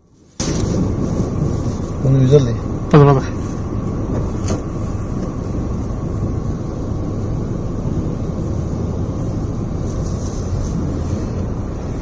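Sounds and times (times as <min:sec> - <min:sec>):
wind buffeting microphone: 0:00.4 - 0:12.0.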